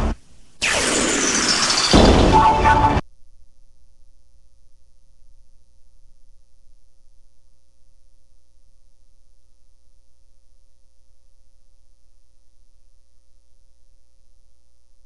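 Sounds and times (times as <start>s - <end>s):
low electrical hum: 0.0s - 0.7s, 2.0s - 15.0s.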